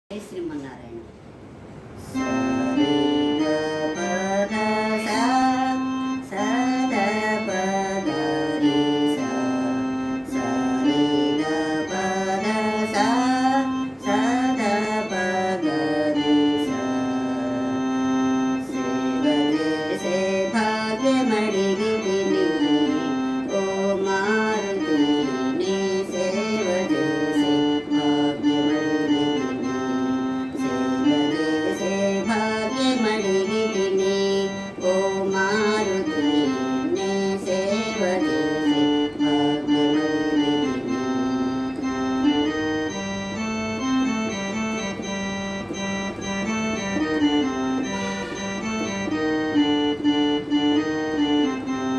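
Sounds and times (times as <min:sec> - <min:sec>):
organ-like keyboard melody: 0:01.3 - 0:51.9.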